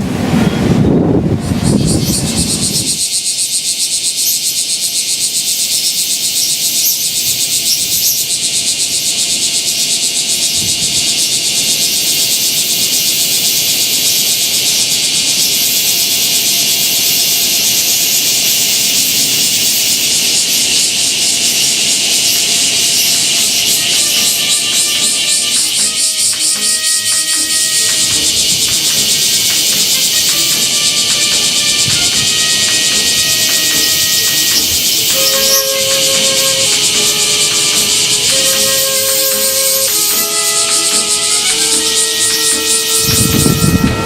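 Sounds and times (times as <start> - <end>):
cicadas buzzing: 0.0 - 44.0.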